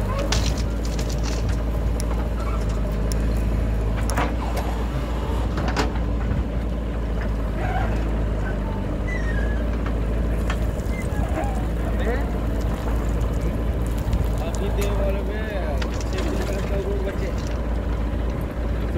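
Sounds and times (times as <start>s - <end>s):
backhoe digging into soil: 0.0s - 6.4s, 9.4s - 18.9s
diesel engine under load: 0.0s - 18.9s.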